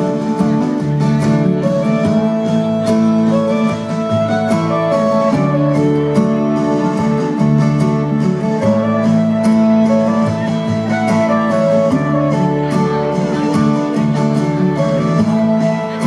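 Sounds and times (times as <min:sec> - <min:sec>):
instrumental country guitar music: 0:00.0 - 0:16.0.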